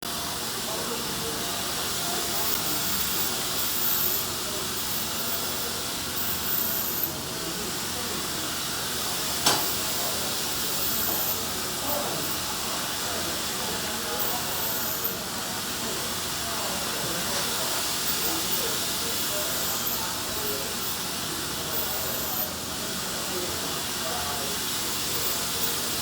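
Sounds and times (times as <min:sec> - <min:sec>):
welding arc hissing: 0:00.1 - 0:26.0.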